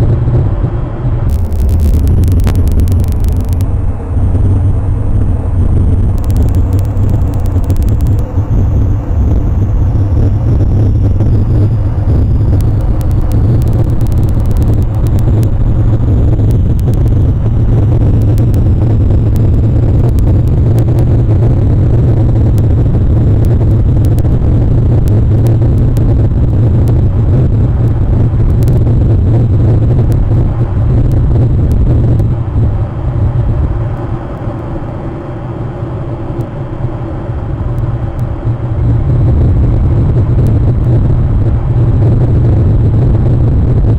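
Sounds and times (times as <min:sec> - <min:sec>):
loud mechanical rumble: 0:00.0 - 0:43.9.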